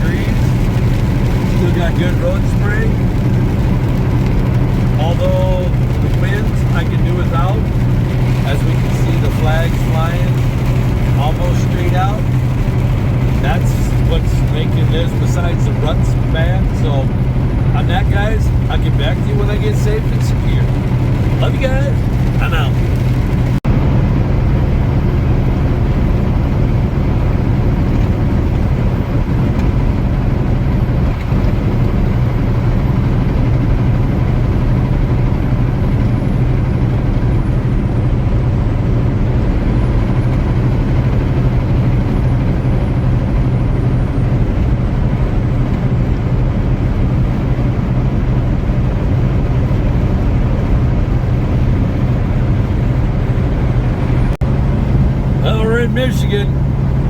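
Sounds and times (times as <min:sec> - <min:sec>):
diesel engine drone: 0:00.0 - 0:57.0
tyre and road noise: 0:00.0 - 0:57.0.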